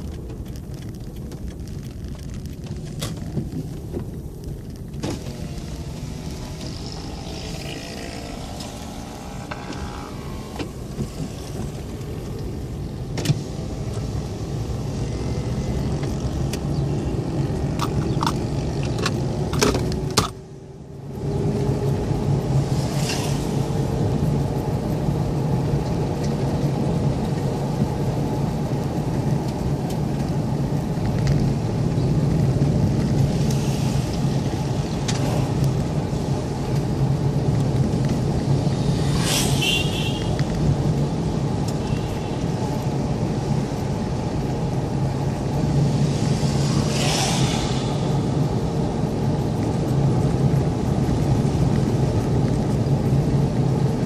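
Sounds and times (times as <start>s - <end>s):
car engine hum: 0.0s - 54.0s
tyre noise on wet road: 0.0s - 54.0s.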